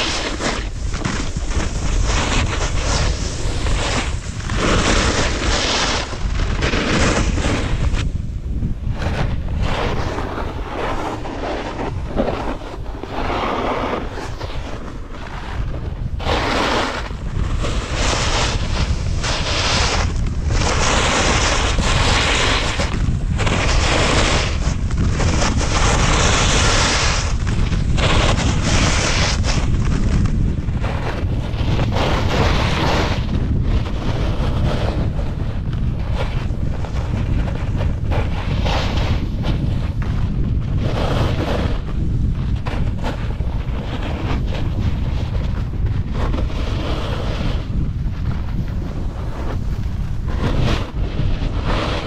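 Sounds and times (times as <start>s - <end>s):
snowboard edges scraping snow: 0.0s - 52.0s
wind buffeting microphone: 0.0s - 52.0s.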